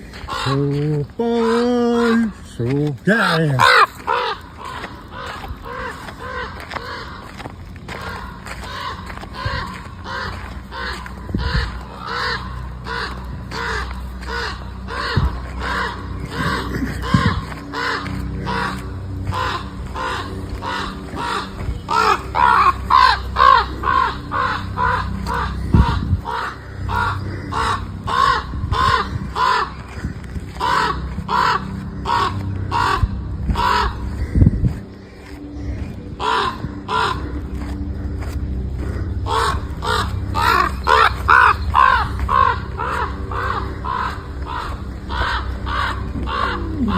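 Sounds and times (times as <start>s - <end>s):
crows cawing: 0.0s - 46.9s.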